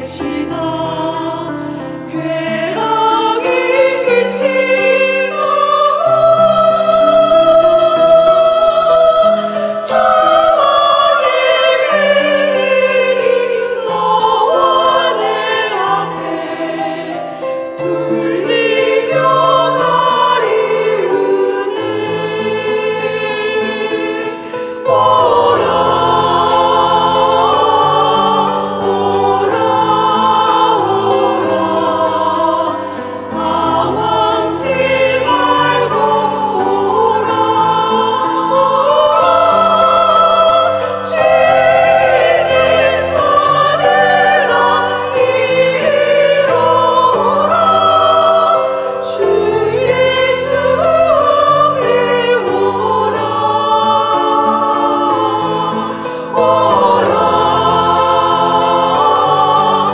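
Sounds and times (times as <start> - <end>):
sustained accompaniment notes: 0.0 - 59.9
women's choir singing a hymn: 0.0 - 59.9.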